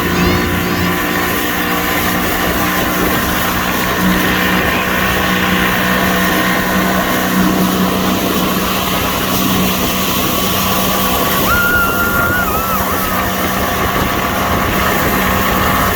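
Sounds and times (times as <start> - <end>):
motorboat engine humming: 0.0 - 15.9
rush of wind and water: 0.0 - 15.9.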